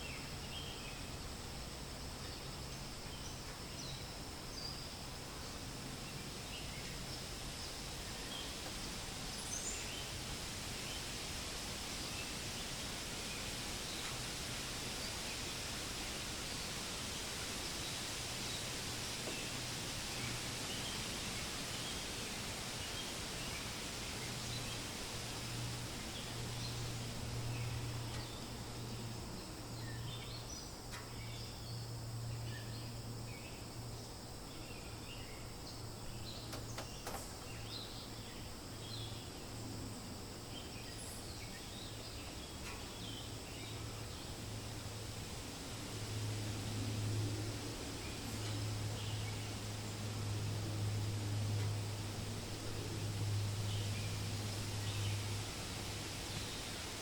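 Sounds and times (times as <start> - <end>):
wind rustling through leaves: 0.0 - 57.0.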